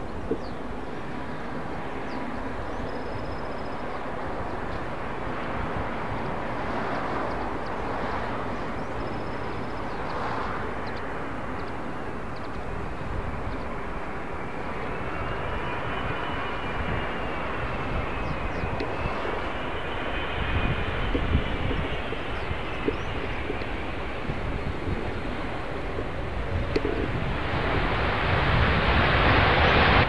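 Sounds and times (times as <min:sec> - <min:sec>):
high engine whine: 0:00.0 - 0:30.0
jet engine rumble: 0:00.0 - 0:30.0.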